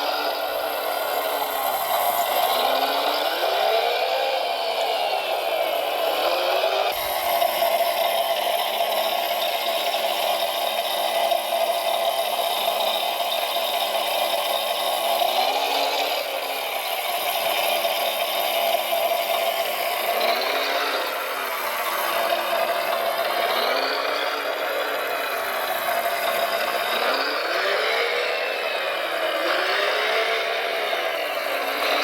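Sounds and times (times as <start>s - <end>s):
small electric motors whining: 0.0s - 32.0s.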